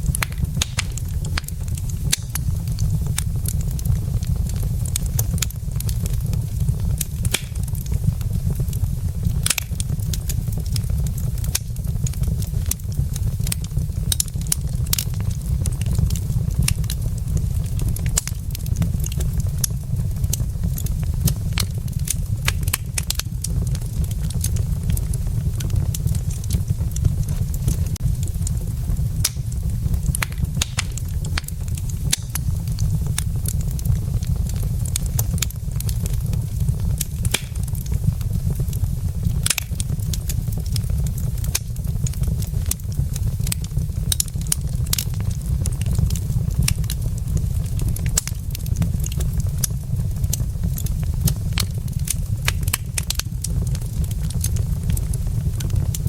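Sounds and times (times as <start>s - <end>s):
burning logs crackling and popping: 0.0s - 56.0s
low fire rumble: 0.0s - 56.0s.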